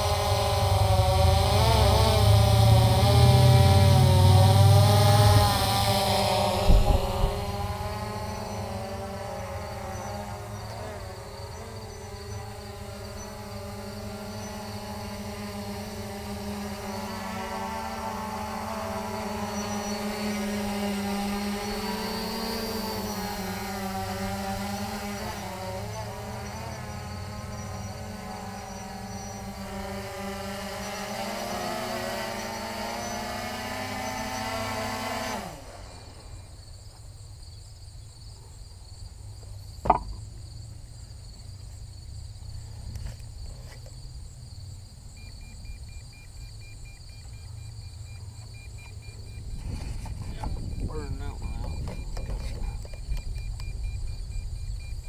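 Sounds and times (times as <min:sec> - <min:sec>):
drone motors humming: 0:00.0 - 0:55.0
insect chirping: 0:05.0 - 0:55.0.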